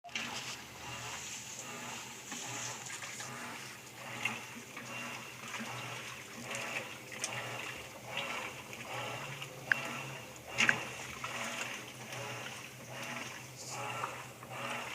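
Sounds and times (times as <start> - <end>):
washing machine motor hum: 0.0 - 14.9
washing machine water sloshing: 0.0 - 14.9.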